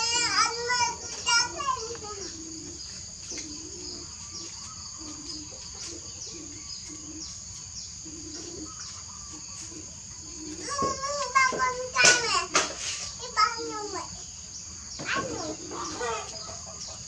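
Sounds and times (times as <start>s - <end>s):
birds chirping falling notes: 0.0s - 17.0s.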